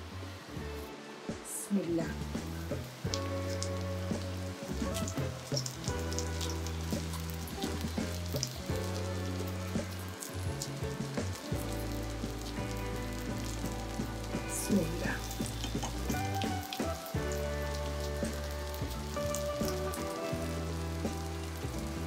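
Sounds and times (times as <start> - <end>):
soft background music: 0.0 - 22.0
food sizzling in oil: 1.7 - 22.0.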